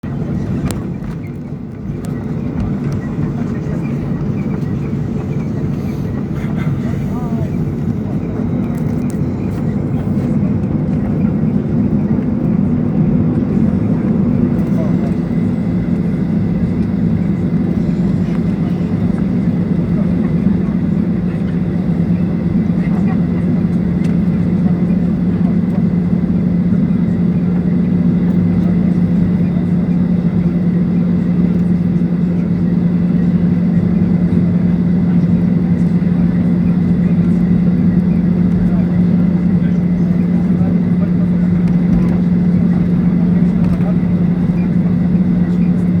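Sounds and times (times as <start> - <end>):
aircraft cabin drone: 0.0 - 46.0
airliner engine rumble: 0.0 - 46.0.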